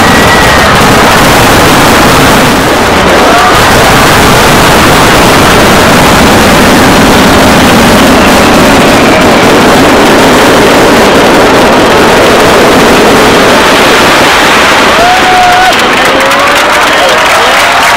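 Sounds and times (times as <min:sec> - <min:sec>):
fireworks barrage rumble: 0:00.0 - 0:17.9.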